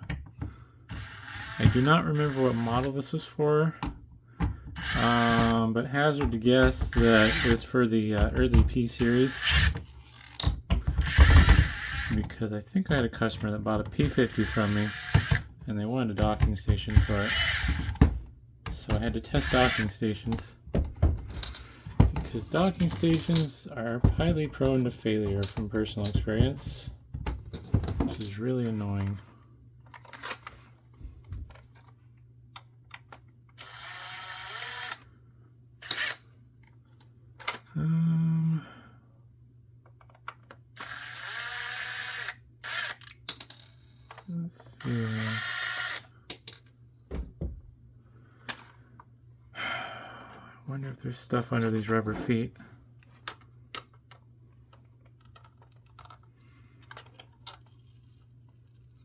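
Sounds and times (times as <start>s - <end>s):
faint steady low hum: 0.0s - 59.0s.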